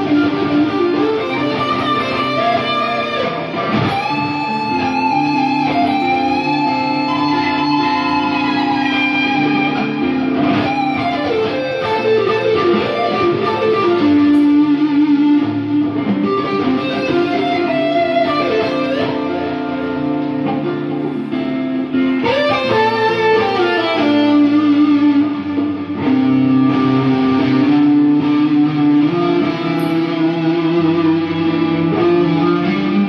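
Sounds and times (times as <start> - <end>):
electric guitar blues lead: 0.0 - 33.0
guitar chord part: 0.0 - 33.0.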